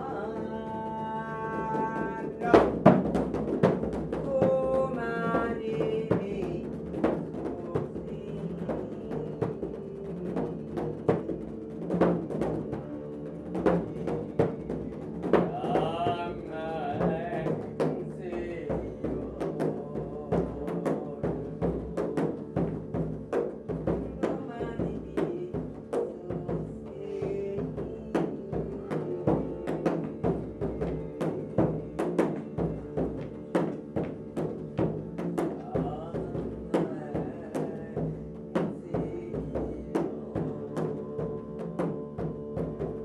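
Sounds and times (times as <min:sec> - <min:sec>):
frame drum struck by hand: 0:00.0 - 0:43.0.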